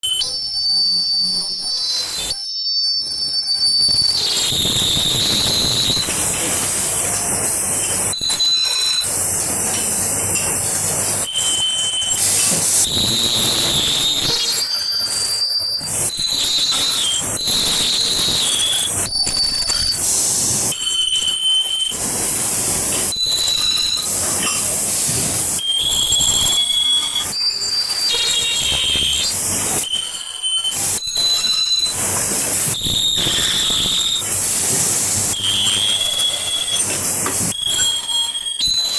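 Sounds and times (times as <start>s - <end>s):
welding machine shrill squeal: 0.0s - 9.3s, 11.2s - 38.9s
machine hiss: 3.2s - 38.5s.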